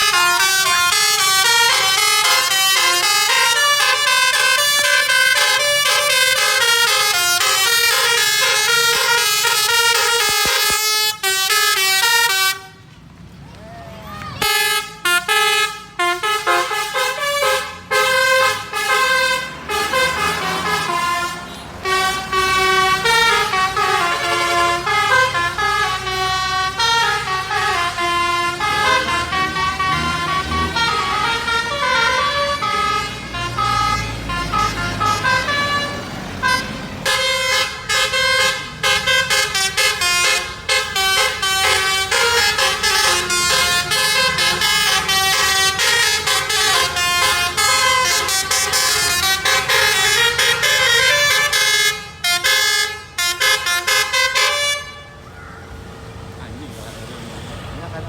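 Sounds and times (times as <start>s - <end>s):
air horns playing a tune: 0.0s - 12.8s, 14.4s - 55.2s
bus engine rumble: 0.0s - 58.0s.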